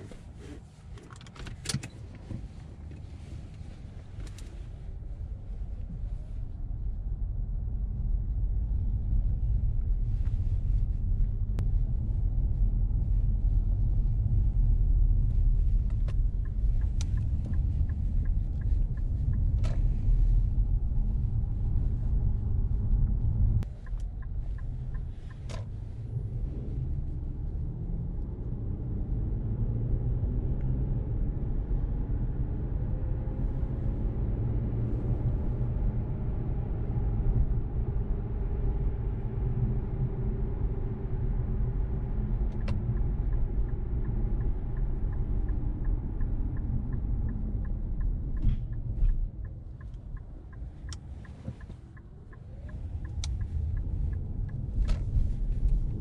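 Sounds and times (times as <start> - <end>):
car engine rumble from inside: 0.0 - 56.0.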